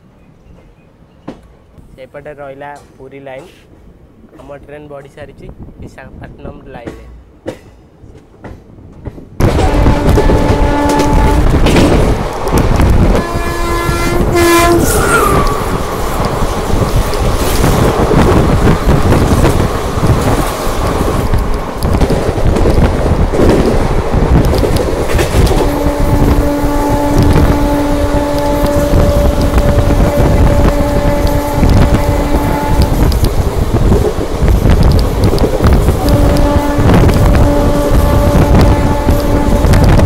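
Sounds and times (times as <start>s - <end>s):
train rail rumble: 0.0s - 40.0s
wind at train window: 0.0s - 40.0s
train coaches rushing past: 6.7s - 40.0s.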